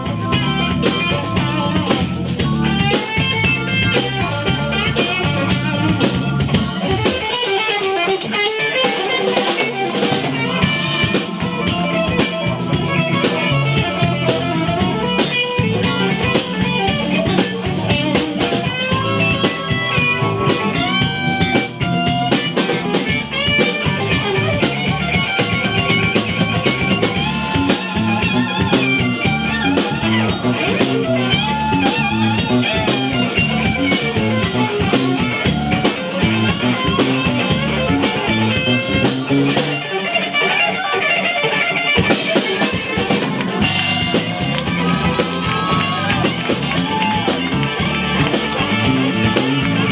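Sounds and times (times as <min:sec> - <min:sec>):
drum kit: 0:00.0 - 0:49.9
electric bass: 0:00.0 - 0:49.9
electric guitar solo: 0:00.0 - 0:49.9.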